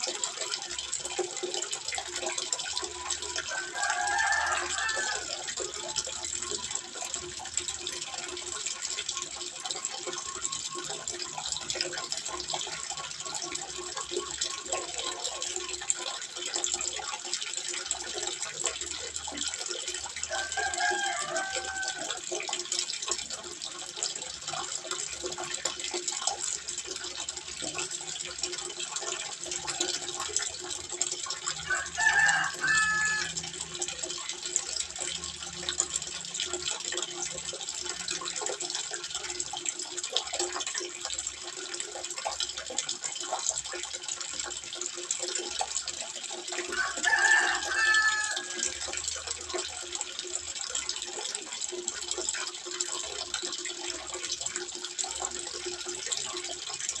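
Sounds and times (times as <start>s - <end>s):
water trickling into pond: 0.0s - 57.0s.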